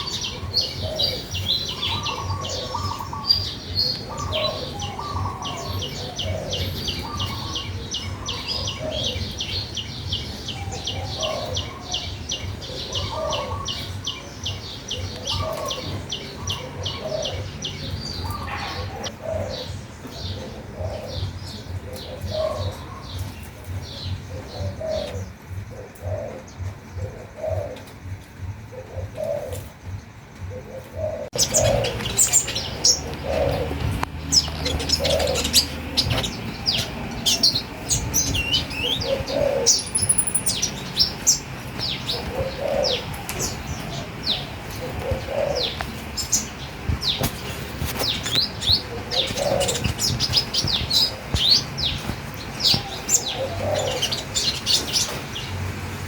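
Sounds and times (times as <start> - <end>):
lower bird calls: 0.0 - 55.7
birds high chirps: 0.0 - 56.0.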